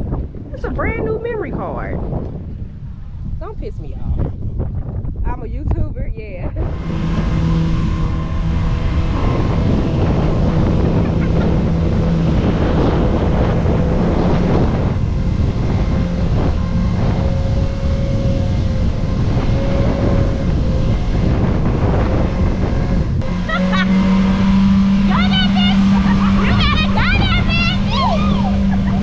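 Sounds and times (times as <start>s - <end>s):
engine running steadily: 0.0s - 29.0s
wind on microphone: 0.0s - 29.0s.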